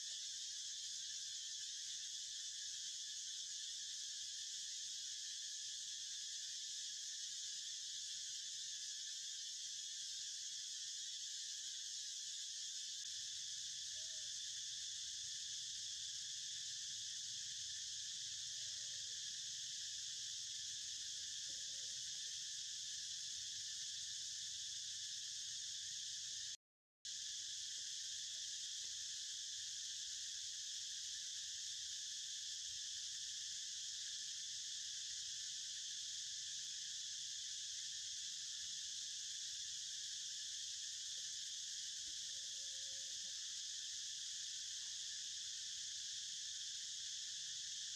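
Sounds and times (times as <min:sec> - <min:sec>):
insects buzzing shrilly: 0:00.0 - 0:47.9.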